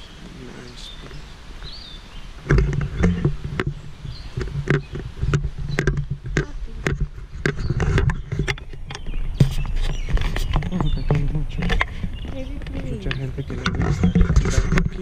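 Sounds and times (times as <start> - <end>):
camera handling and wind rumble: 1.6 - 15.0.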